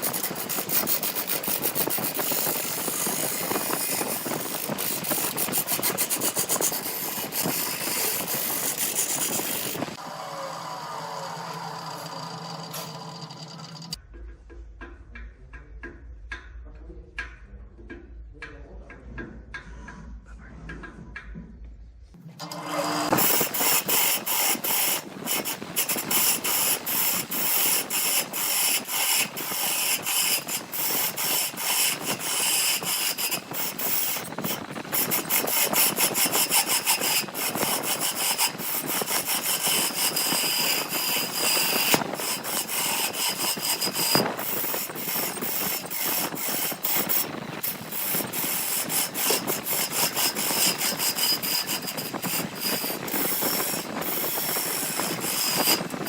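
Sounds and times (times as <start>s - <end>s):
power tool cutting wood: 0.0s - 14.0s, 22.4s - 56.0s.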